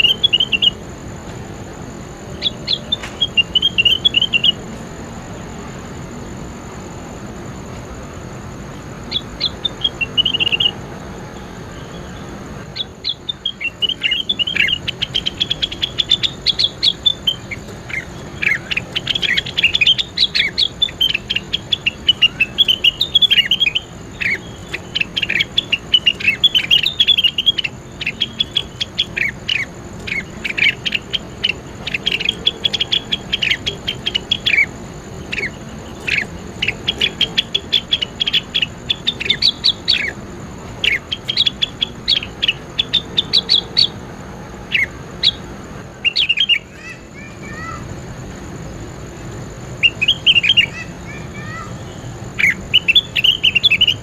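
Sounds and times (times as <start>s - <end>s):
songbird singing sharp chirps: 0.0s - 54.0s.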